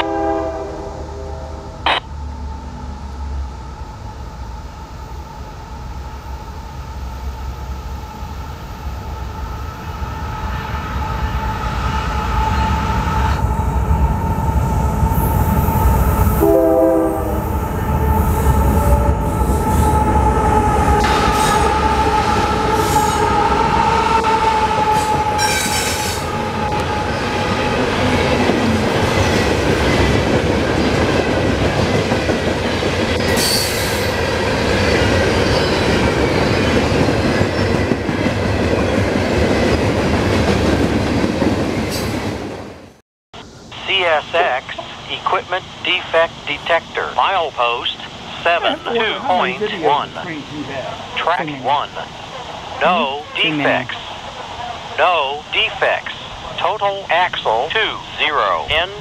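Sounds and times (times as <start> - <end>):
diesel locomotive passing: 0.0 - 59.0.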